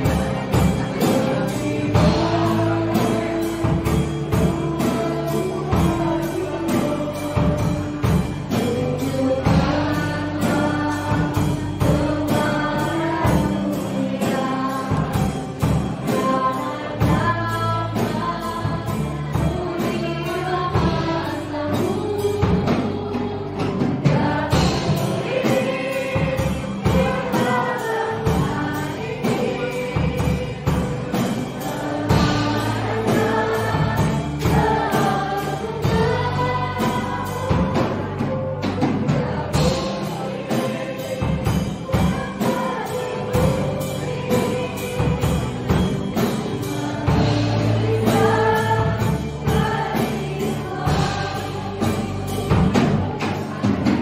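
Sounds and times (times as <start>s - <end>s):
accompaniment with steady beat: 0.0s - 54.0s
group of voices singing: 0.0s - 54.0s.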